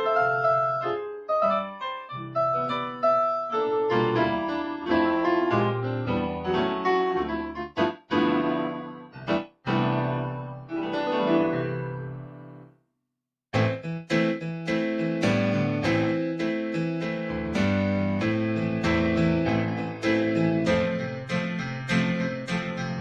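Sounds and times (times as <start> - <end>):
keyboard playing piano notes and chords: 0.0 - 12.8, 13.6 - 23.0.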